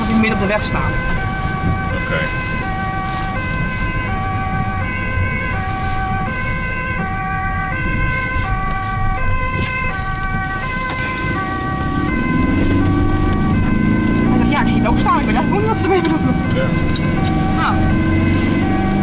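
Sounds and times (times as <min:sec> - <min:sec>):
engine and road rumble: 0:00.0 - 0:19.0
two-tone ambulance siren: 0:00.0 - 0:19.0.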